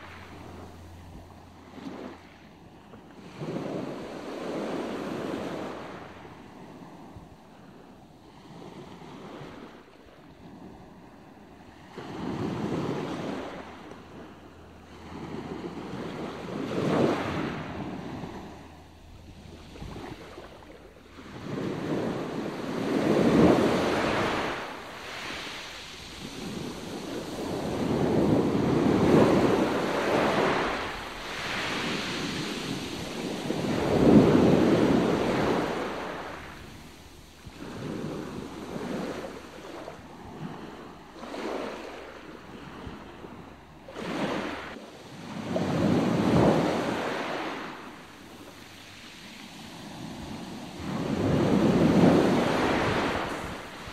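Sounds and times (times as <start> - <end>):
sea waves washing: 0.0 - 53.9
wind on microphone: 0.0 - 53.9.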